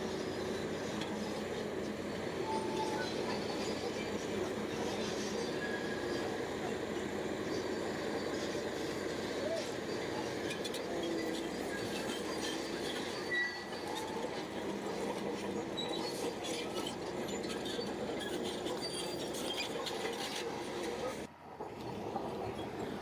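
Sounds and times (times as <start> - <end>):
bulldozer machine noise: 0.0 - 23.0
steel tracks clanking and squeaking: 0.0 - 23.0.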